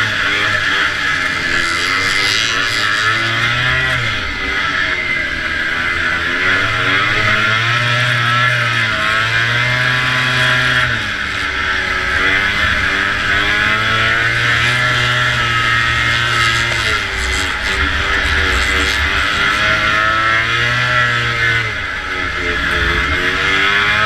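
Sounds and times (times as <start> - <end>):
snowmobile engine racing: 0.0 - 24.0.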